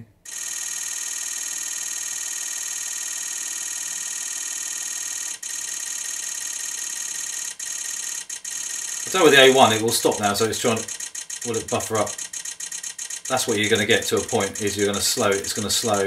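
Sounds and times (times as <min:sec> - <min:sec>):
camera shutter rapid burst: 0:00.3 - 0:16.0.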